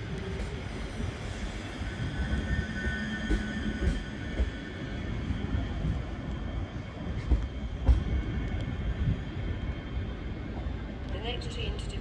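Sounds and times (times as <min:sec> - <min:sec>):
electric train whine and hum: 0:00.0 - 0:12.0
low train rumble: 0:00.0 - 0:12.0.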